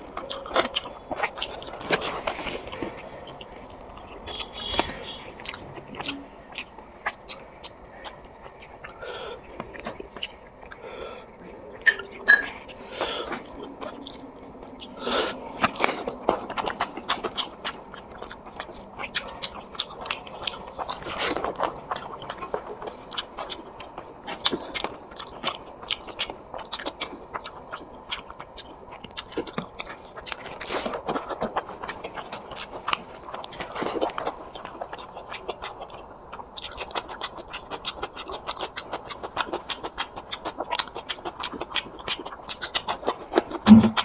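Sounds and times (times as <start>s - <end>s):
person chewing food: 0.0s - 44.0s.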